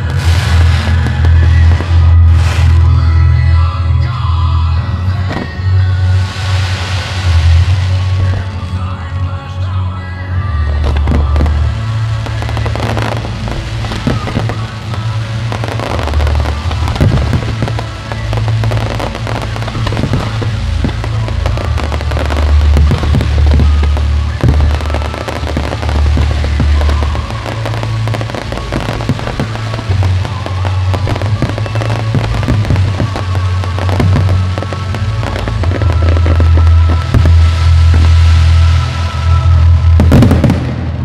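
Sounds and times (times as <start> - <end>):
fireworks bursting and crackling: 0.0 - 41.0
music with heavy bass: 0.0 - 41.0.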